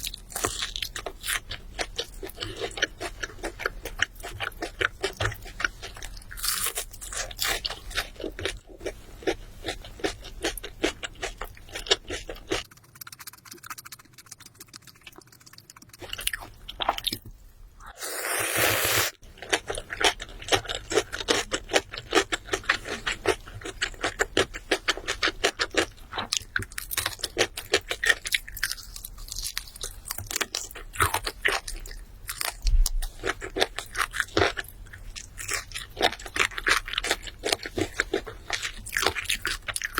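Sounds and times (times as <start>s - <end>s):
chewing crunchy food: 0.0s - 17.3s, 19.2s - 39.9s.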